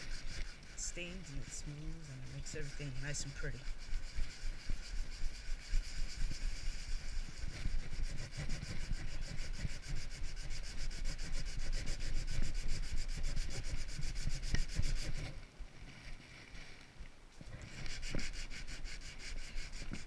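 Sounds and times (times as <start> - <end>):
sandpaper rubbing on wood: 0.0 - 15.4, 17.6 - 20.0.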